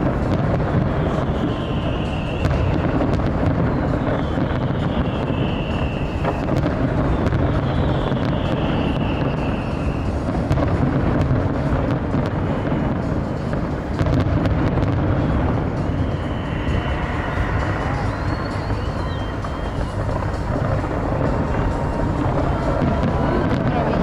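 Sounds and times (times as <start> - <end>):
fireworks falling whistles: 0.0 - 24.0
fireworks rumbling and banging: 0.0 - 24.0.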